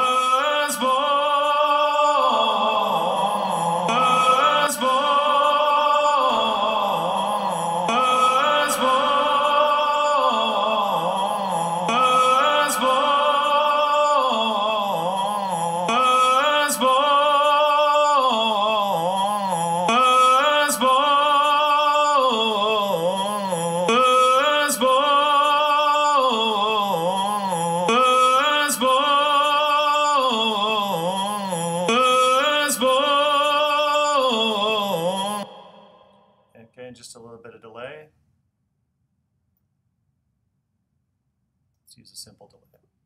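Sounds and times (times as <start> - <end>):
man singing with reverb: 0.0 - 37.9.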